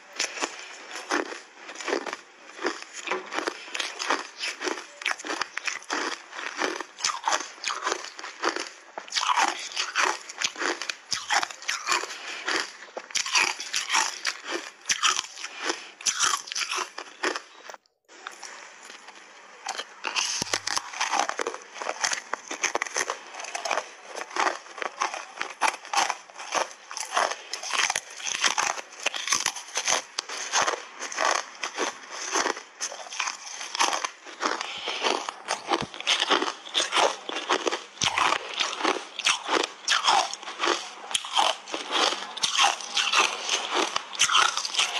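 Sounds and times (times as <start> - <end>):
ice bars crunching: 0.2 - 17.5, 19.6 - 44.9.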